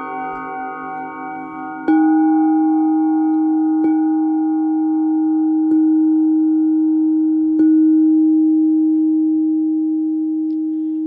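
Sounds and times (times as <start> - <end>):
singing bowls ringing: 0.0 - 11.0.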